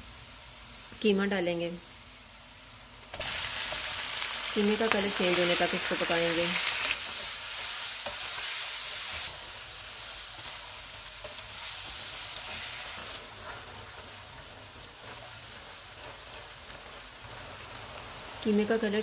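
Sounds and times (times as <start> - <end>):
meat sizzling in oil: 2.2 - 19.0
spatula stirring in wok: 3.1 - 18.4.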